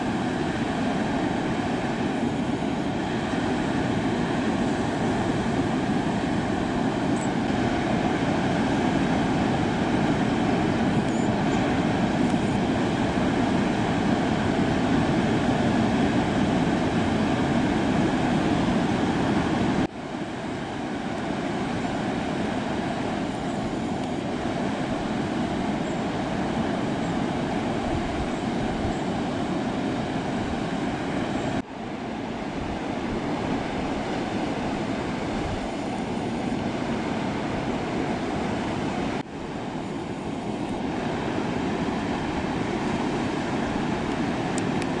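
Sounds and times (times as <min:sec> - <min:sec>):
ocean surf breaking: 0:00.0 - 0:45.0.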